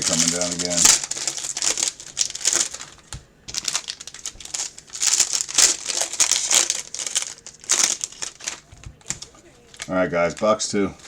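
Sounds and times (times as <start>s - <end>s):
plastic packaging crinkling and tearing: 0.0s - 11.0s.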